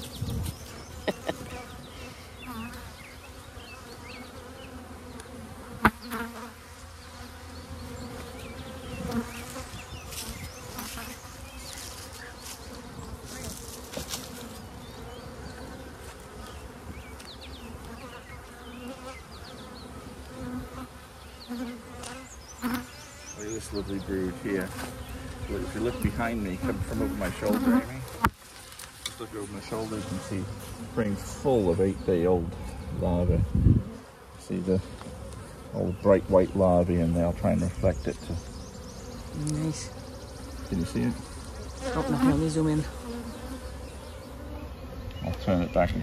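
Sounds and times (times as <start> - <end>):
honey bees buzzing: 0.0 - 46.0.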